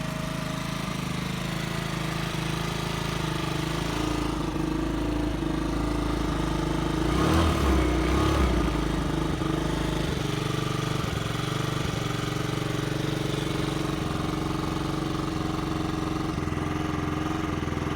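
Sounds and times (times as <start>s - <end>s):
scooter engine idling: 0.0s - 17.9s.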